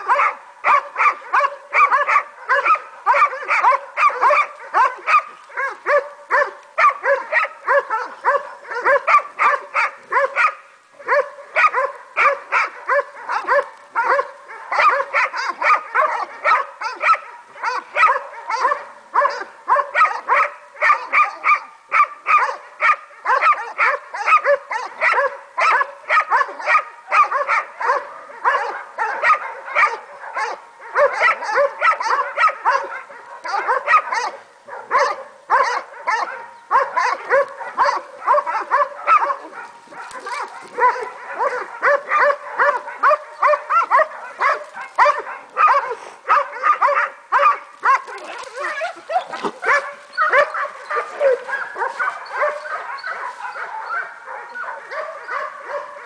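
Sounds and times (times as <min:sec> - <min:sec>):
hounds baying and barking: 0:00.0 - 0:56.0.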